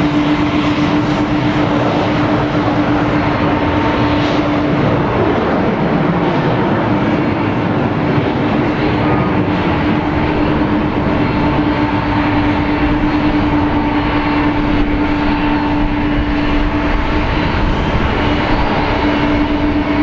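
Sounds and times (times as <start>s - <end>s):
jet engines at takeoff power: 0.0s - 20.0s.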